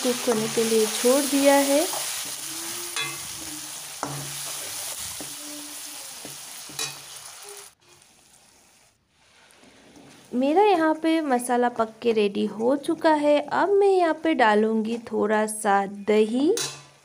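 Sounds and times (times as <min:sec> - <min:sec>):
masala sizzling in oil: 0:00.0 - 0:14.2.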